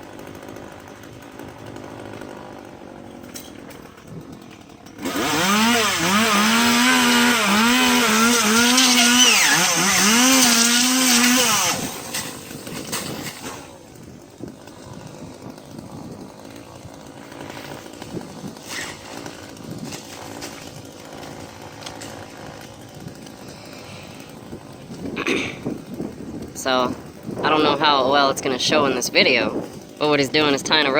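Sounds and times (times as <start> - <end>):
chainsaw running at high revs: 0.0 - 30.9.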